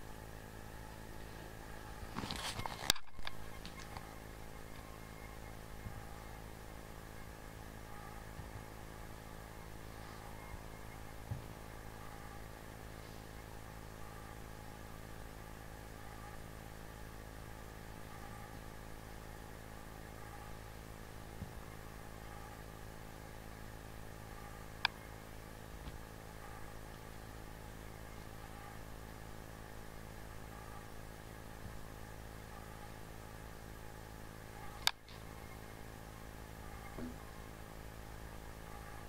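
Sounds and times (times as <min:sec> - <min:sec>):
low hum of fixed tones: 0:00.0 - 0:39.0.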